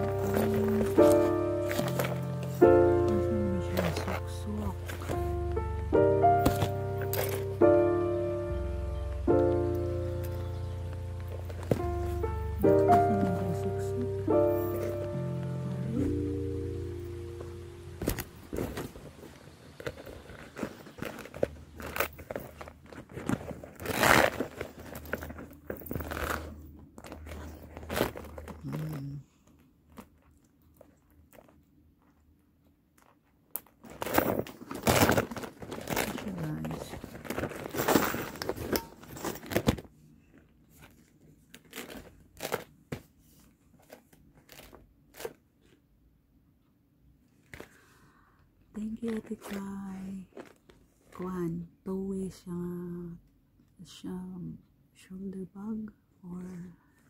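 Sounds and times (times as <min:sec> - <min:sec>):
gift wrap crinkling and rustling: 0:00.0 - 0:07.7, 0:08.4 - 0:32.4, 0:33.0 - 0:45.8, 0:48.8 - 0:51.7.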